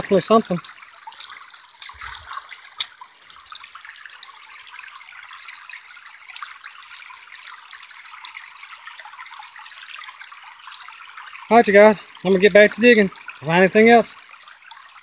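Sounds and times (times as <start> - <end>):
water trickling over gravel: 0.0 - 15.0.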